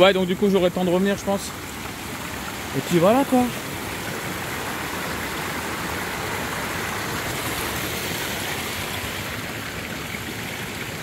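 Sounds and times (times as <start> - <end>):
stream rushing between boulders: 0.0 - 11.0.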